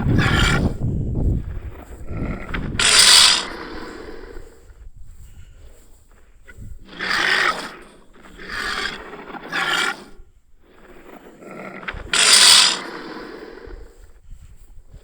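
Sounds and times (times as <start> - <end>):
harsh rasping growls: 0.0 - 14.2.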